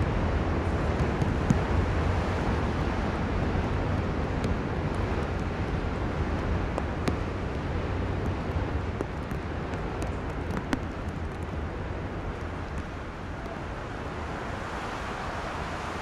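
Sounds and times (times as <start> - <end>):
traffic on wet roads: 0.0 - 16.0.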